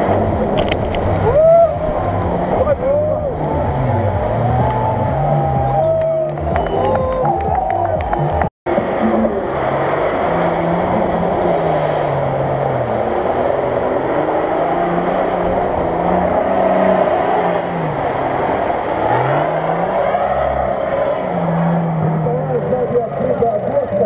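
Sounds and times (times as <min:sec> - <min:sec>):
engine revving hard: 0:00.0 - 0:23.0.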